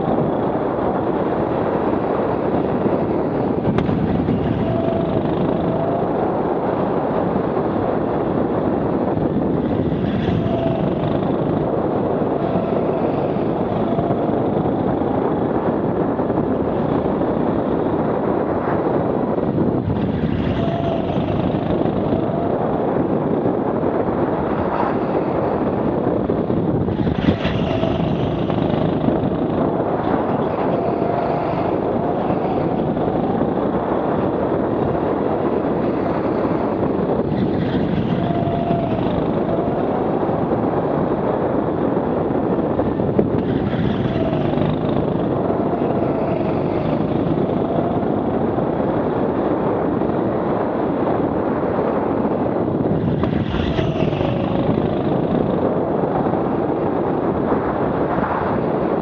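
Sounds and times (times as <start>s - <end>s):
go-kart engine whine: 0.0s - 17.8s, 19.8s - 50.5s, 52.4s - 56.8s
wind and running noise: 0.0s - 59.0s.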